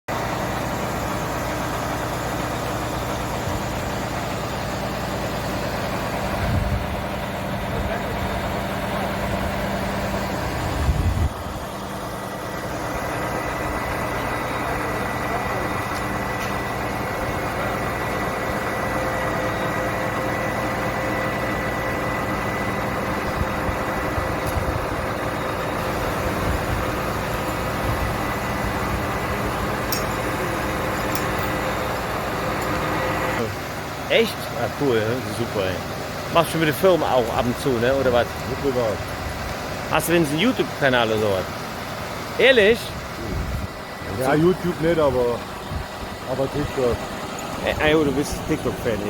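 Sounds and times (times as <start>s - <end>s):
diesel engine running: 0.1s - 49.0s.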